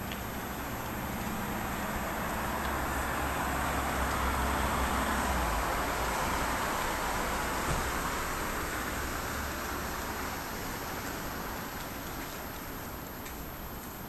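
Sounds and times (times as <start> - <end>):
passing vehicle rush: 0.0 - 11.3.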